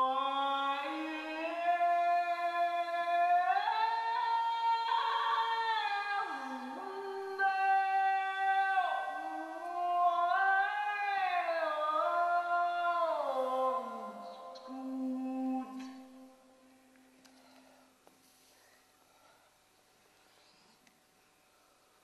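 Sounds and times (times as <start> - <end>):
slow wordless music: 0.0 - 17.6.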